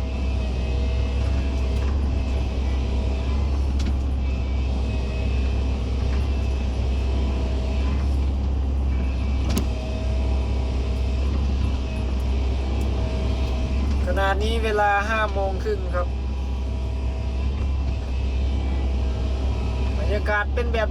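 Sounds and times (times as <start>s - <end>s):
excavator diesel engine: 0.0s - 20.9s
hydraulic whine: 0.0s - 20.9s.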